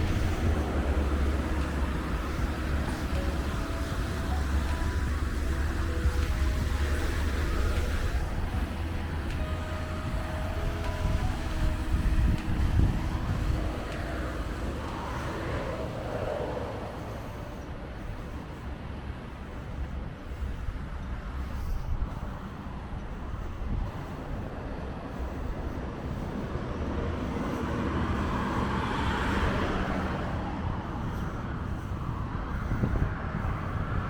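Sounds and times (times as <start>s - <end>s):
low rumble of road traffic: 0.0s - 34.0s.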